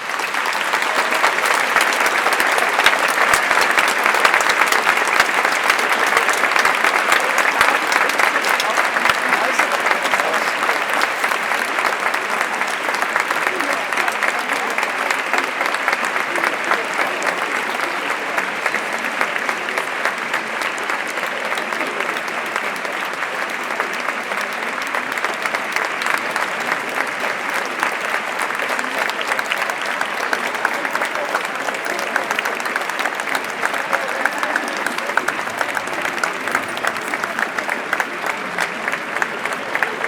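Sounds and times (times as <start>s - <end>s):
crowd applauding: 0.0s - 40.0s.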